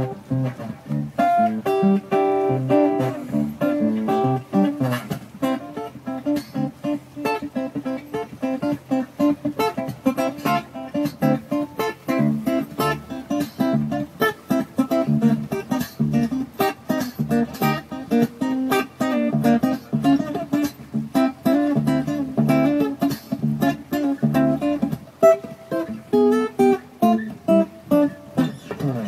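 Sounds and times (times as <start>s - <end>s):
strummed acoustic guitar pop music: 0.0s - 29.0s.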